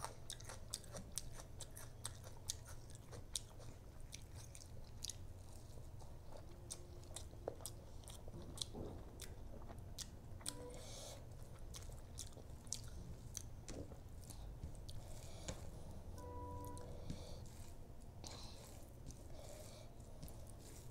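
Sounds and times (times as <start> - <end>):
low steady hum: 0.0 - 20.9
person chewing food: 0.0 - 20.9.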